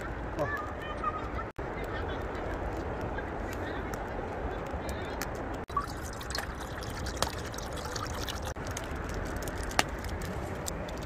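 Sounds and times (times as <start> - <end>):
fire crackling pops: 0.0 - 11.0
fire flame rushing: 1.6 - 11.0.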